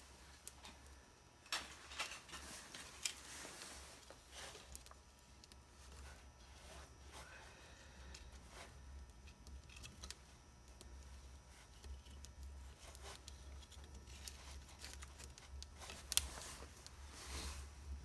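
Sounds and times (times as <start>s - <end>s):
fire crackling and snapping: 0.0s - 18.0s
steady low hum: 0.0s - 18.0s.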